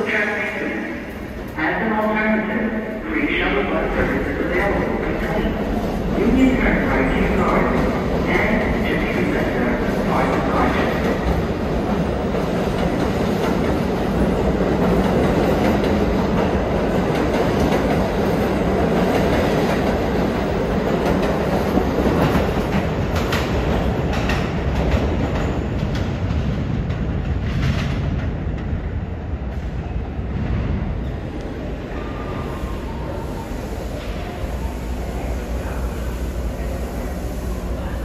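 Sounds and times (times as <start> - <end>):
subway train rumbling on rails: 0.0 - 38.0.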